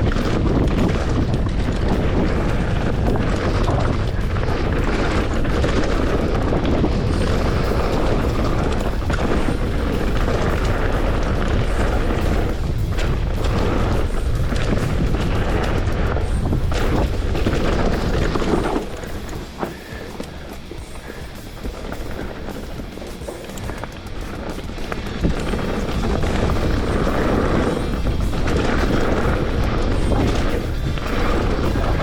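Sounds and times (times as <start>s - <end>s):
mountain bike rattling over rock: 0.0s - 32.0s
wind buffeting microphone: 0.0s - 32.0s.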